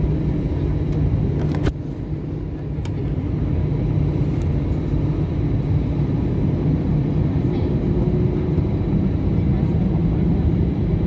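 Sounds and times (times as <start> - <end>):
jet engines at high power: 0.0 - 11.0.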